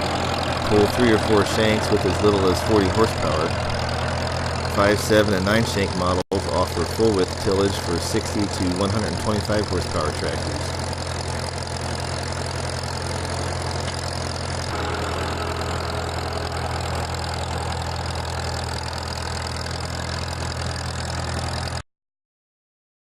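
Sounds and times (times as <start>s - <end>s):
tractor engine running: 0.0s - 21.8s.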